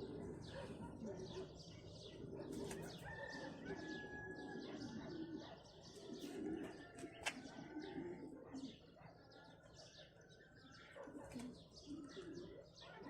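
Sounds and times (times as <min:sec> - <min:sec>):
doves cooing: 0:00.0 - 0:09.0, 0:11.0 - 0:12.8.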